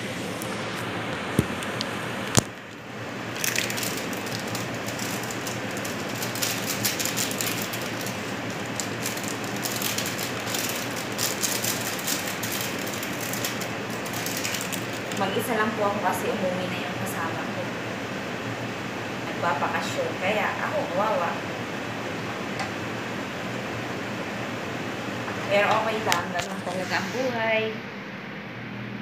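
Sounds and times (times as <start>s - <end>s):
kitchen exhaust fan: 0.0s - 29.0s.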